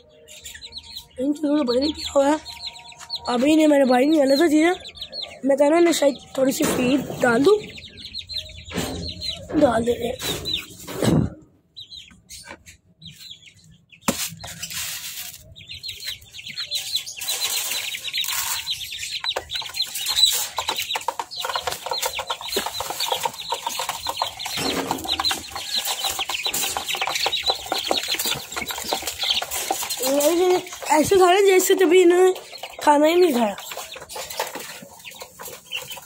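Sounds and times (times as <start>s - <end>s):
chicks peeping: 0.0s - 36.0s.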